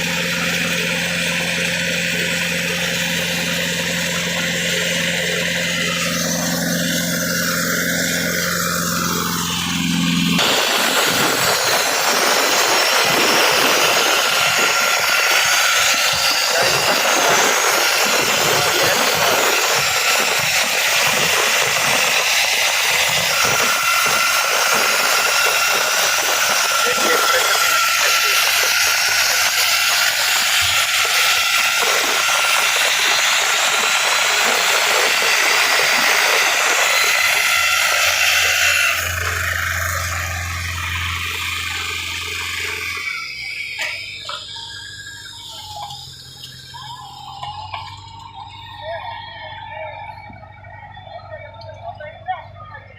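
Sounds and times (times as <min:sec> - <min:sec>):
engine humming: 0:00.0 - 0:52.9
rock drill hissing and rattling: 0:02.1 - 0:48.2.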